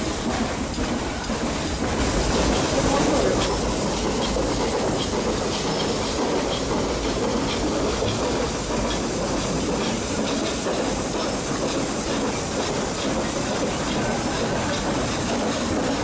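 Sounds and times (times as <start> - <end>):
train rumbling: 0.0 - 16.0
wheels clicking over rail joints: 0.2 - 16.0.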